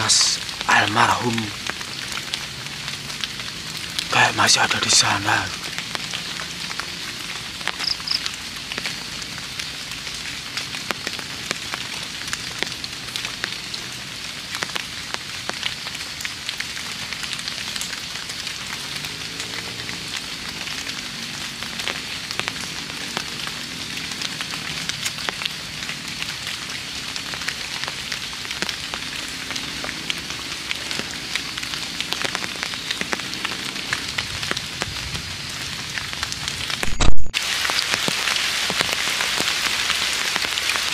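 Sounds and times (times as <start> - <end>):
light rain pattering: 0.0 - 40.9.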